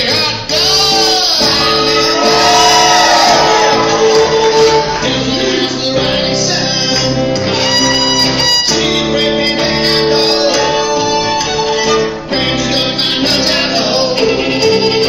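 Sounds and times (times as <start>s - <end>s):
strummed guitar: 0.0s - 15.0s.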